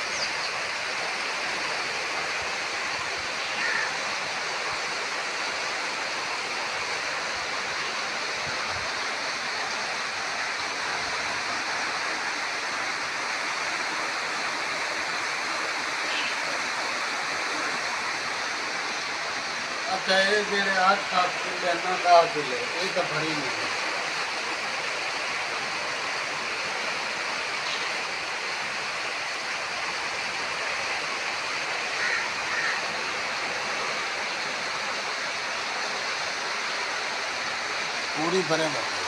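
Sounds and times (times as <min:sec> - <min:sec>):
water rushing through street: 0:00.0 - 0:39.0.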